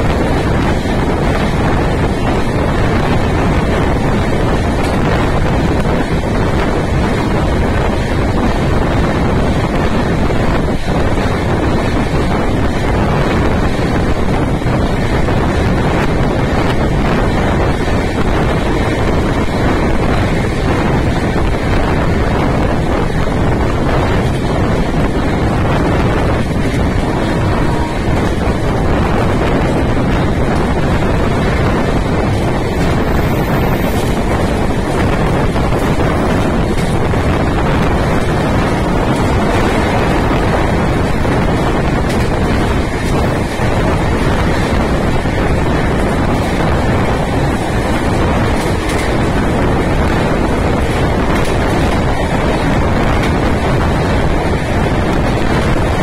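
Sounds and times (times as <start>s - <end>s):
moving train running noise: 0.0s - 56.0s
wind buffeting microphone: 0.0s - 56.0s.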